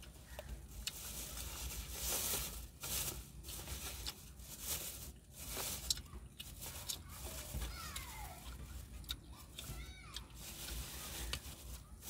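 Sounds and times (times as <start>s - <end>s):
plastic bag rustling: 0.0s - 8.9s, 9.7s - 12.0s.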